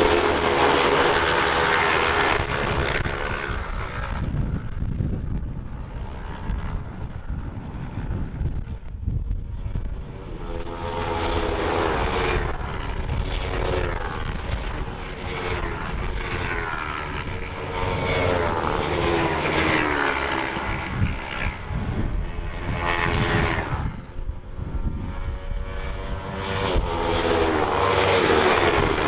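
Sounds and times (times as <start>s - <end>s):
race motorcycles passing: 0.0s - 29.0s.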